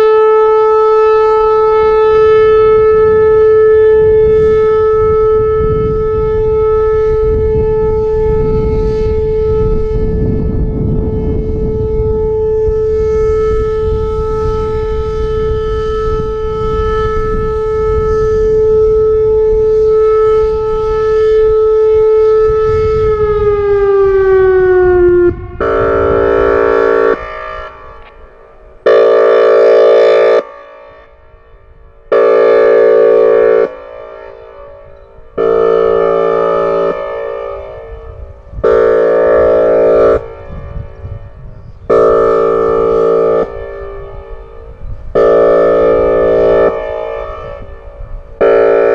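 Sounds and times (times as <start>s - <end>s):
electronic siren steady tone: 0.0s - 48.9s
siren honking blasts: 0.0s - 48.9s.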